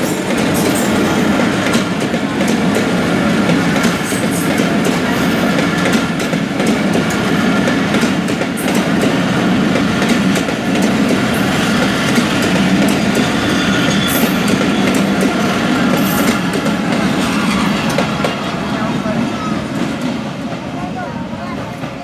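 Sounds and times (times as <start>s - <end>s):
clickety-clack of rail joints: 0.0s - 22.0s
train wheels rumbling on rails: 0.0s - 22.0s.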